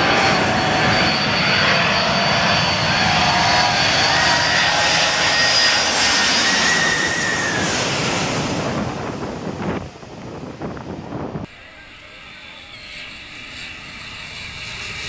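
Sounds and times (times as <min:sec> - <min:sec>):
jet airliner passing overhead: 0:00.0 - 0:15.0.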